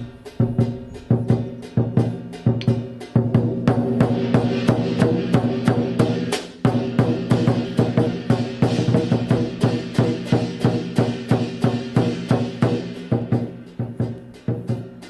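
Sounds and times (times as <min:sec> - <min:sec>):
big drum beating fast: 0:00.0 - 0:15.0
gong and cymbals ringing: 0:00.0 - 0:15.0.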